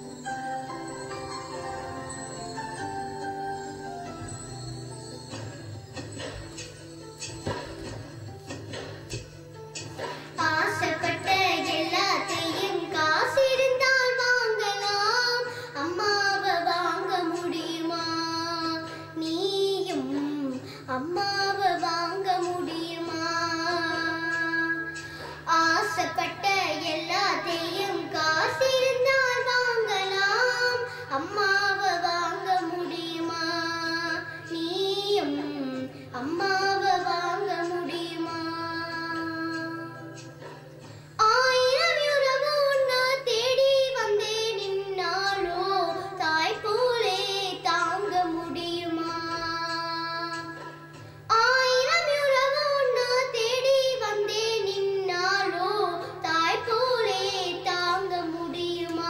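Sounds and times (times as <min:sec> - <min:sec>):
girl singing into a microphone: 0:09.9 - 0:59.0.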